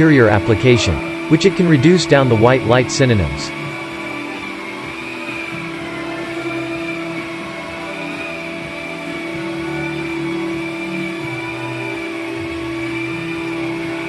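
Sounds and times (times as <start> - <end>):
high wavering whine: 0.0 - 14.0
motor-like drone: 0.0 - 14.0.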